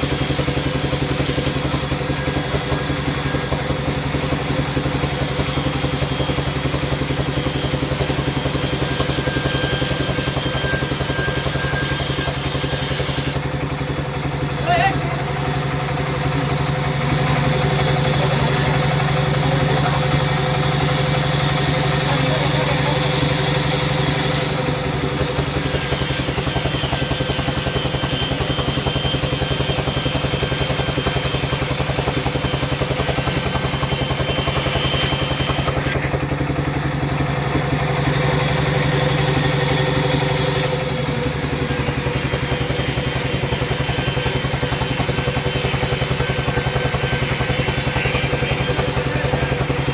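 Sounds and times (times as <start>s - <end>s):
sawmill motor humming: 0.0s - 49.9s.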